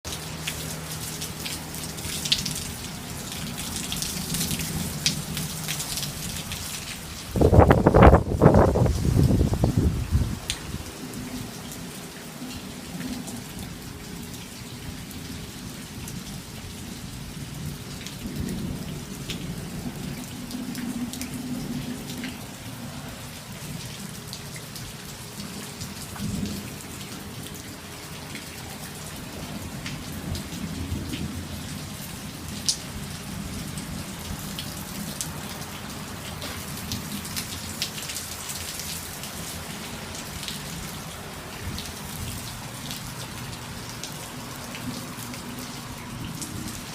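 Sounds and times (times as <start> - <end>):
heavy rain falling: 0.0 - 46.9
rain drops hitting close by: 0.0 - 46.9.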